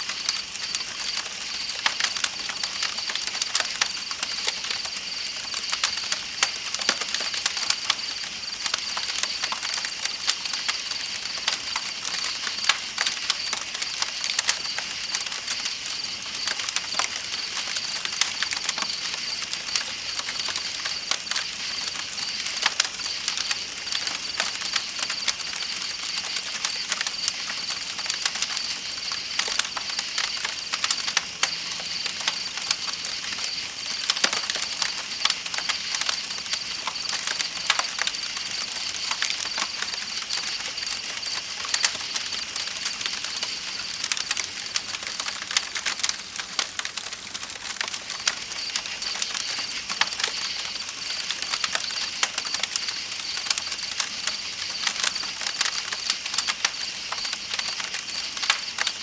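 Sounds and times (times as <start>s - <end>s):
campfire crackling and popping: 0.0s - 59.0s
night insects chirring: 0.0s - 59.0s.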